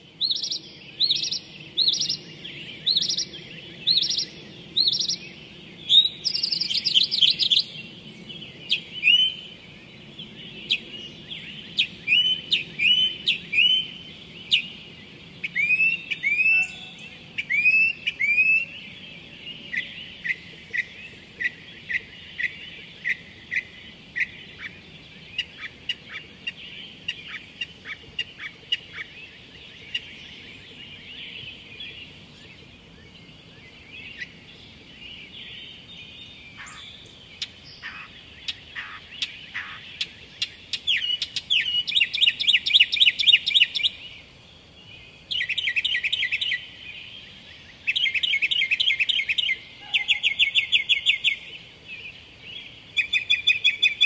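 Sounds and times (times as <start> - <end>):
mockingbird singing: 0.0 - 44.2, 44.9 - 54.0.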